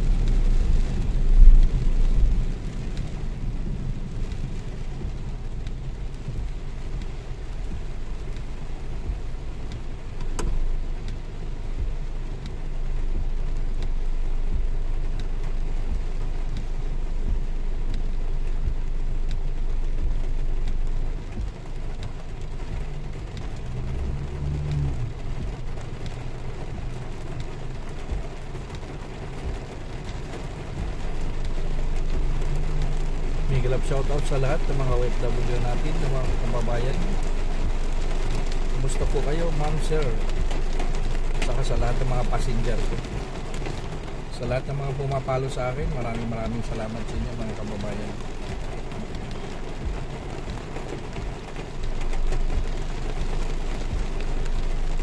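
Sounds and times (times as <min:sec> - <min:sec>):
rain on car body: 0:00.0 - 0:55.0
road and engine rumble: 0:00.0 - 0:55.0.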